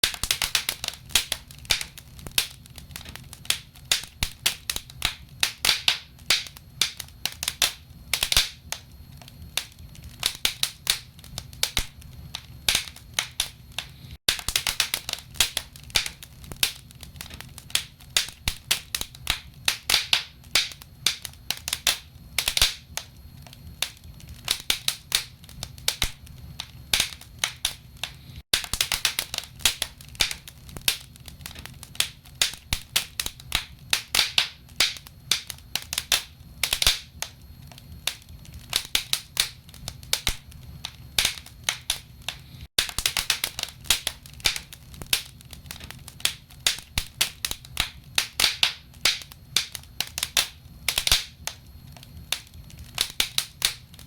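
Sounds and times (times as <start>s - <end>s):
low rumble of fire: 0.0s - 54.0s.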